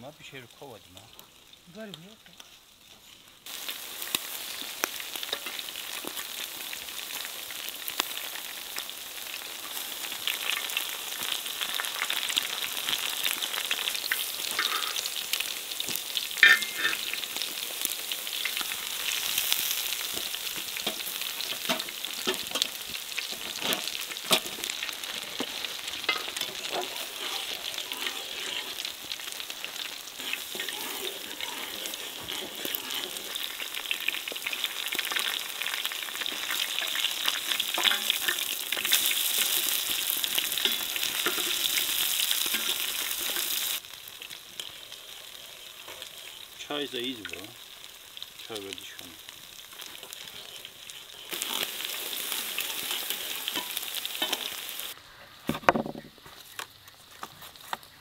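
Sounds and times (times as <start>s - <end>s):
fish sizzling over charcoal: 0.0s - 58.0s.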